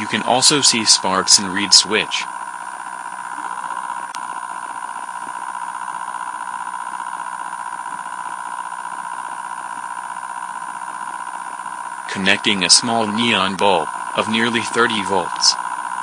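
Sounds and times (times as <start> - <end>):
high electric coil buzz: 0.0 - 16.0.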